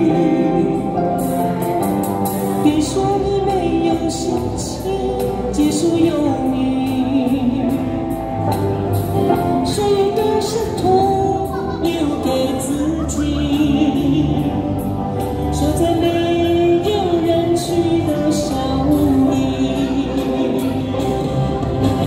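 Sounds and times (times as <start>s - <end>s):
woman singing pop ballad: 0.0s - 1.2s, 2.5s - 21.8s
backing track with steady beat: 0.0s - 22.0s.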